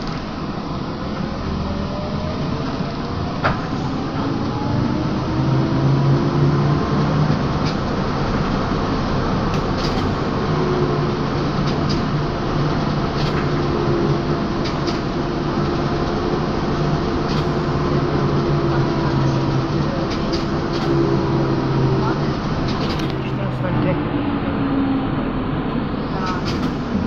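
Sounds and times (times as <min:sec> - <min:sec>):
road noise: 0:00.0 - 0:27.0.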